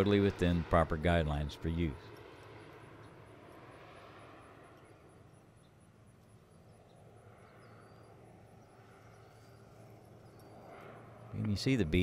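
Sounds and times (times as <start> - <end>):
distant airplane engine drone: 0.0 - 12.0.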